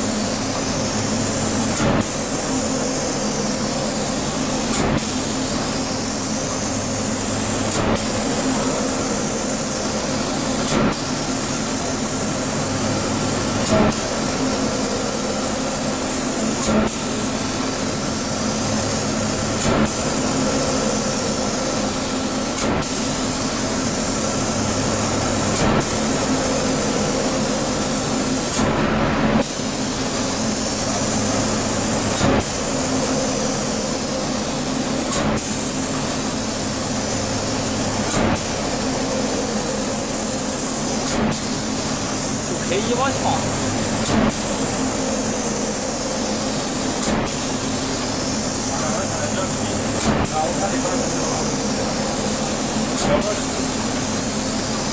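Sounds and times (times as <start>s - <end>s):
air spray gun hissing: 0.0s - 28.8s, 29.4s - 54.9s.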